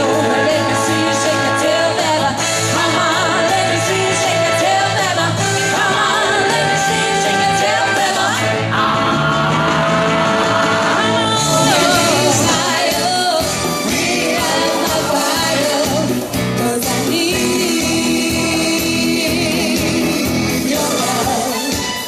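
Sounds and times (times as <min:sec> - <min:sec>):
woman singing: 0:00.0 - 0:21.8
live pop music through pa: 0:00.0 - 0:22.0.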